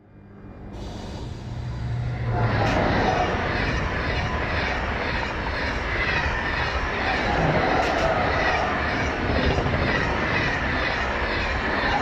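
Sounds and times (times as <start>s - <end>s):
high-speed train passing: 0.0s - 12.0s.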